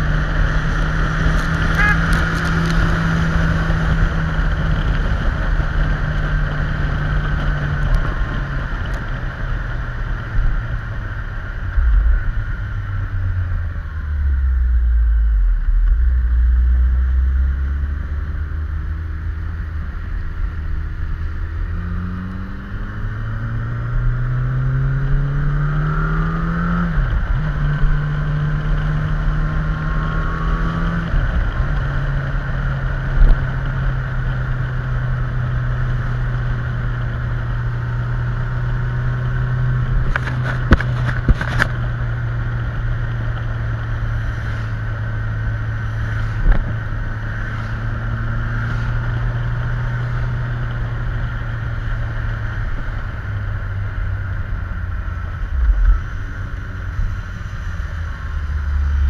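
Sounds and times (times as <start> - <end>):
tyre noise on wet road: 0.0 - 22.2, 22.8 - 59.0
motorcycle engine: 0.0 - 59.0
wind: 0.0 - 59.0.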